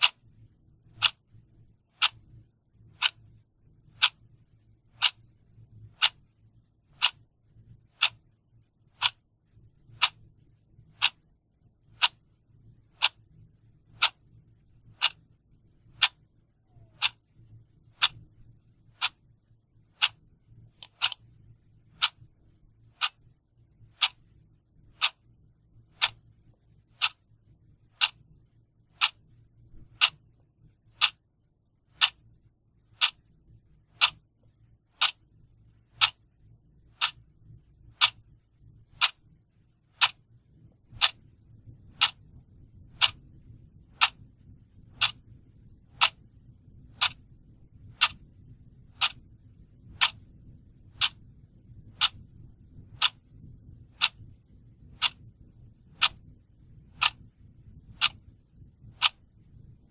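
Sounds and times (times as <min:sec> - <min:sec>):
clock ticking: 0:00.0 - 0:31.3, 0:31.9 - 0:32.3, 0:32.9 - 0:33.3, 0:33.9 - 0:36.3, 0:36.9 - 0:59.9.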